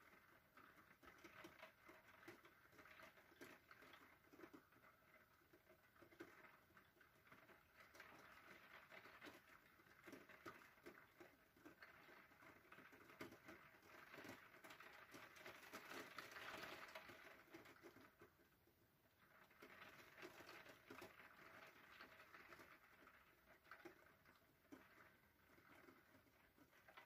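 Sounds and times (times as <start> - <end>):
rain pattering on a window: 0.0 - 27.0.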